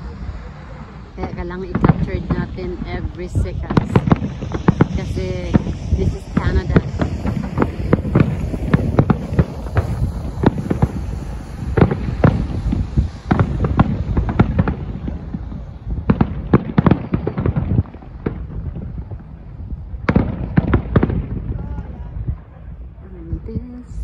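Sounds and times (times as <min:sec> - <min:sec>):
fireworks bursting with bangs and crackles: 0:00.0 - 0:24.0
low rumble: 0:00.0 - 0:24.0.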